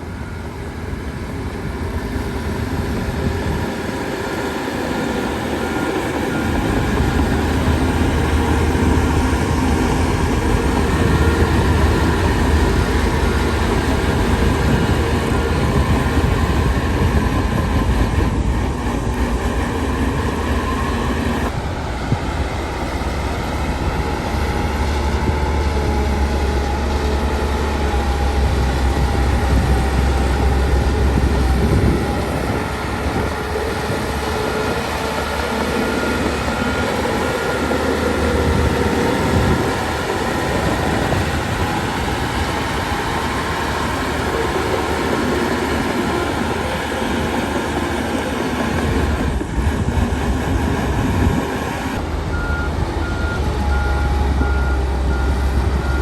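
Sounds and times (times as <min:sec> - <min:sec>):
deep diesel engine drone: 0:00.0 - 0:56.0
steel tracks clanking: 0:00.8 - 0:56.0.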